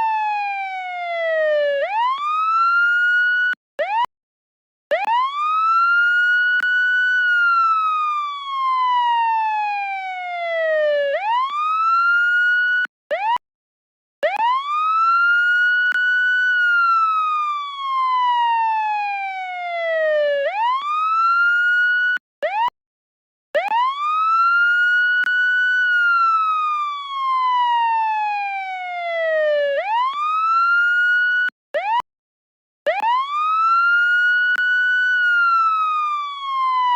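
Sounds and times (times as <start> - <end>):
police siren wailing: 0.0 - 4.1, 4.9 - 13.4, 14.2 - 22.7, 23.6 - 32.0, 32.9 - 36.9.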